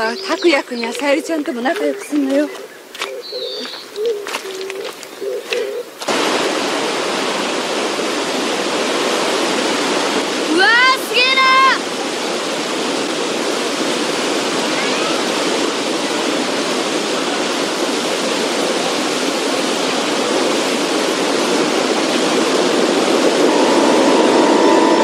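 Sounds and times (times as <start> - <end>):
waterfall rushing: 3.7 - 25.0.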